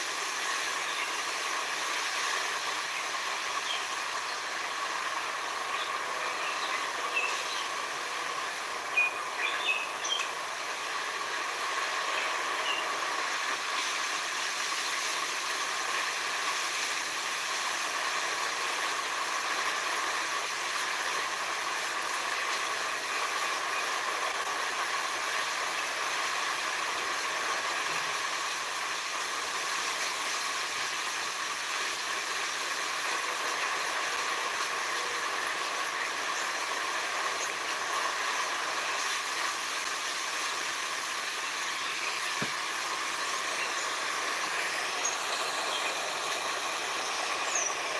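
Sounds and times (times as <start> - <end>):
forest ambience hiss: 0.0 - 47.9.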